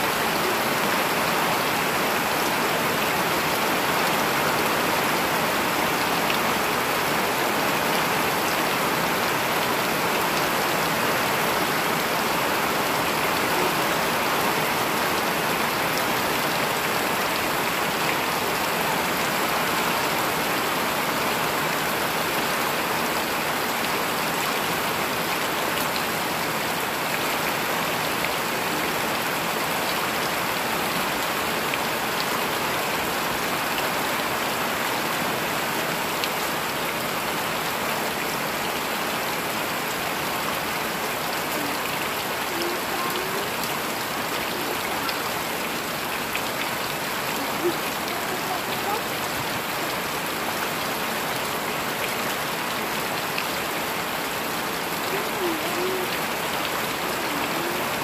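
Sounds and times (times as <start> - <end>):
heavy rain on leaves: 0.0 - 58.0.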